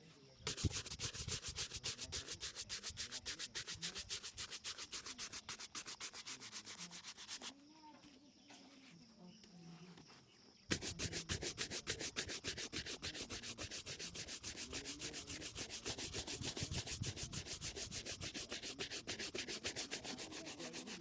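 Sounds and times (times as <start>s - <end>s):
shoe buffing strokes: 0.4s - 7.5s, 10.7s - 21.0s.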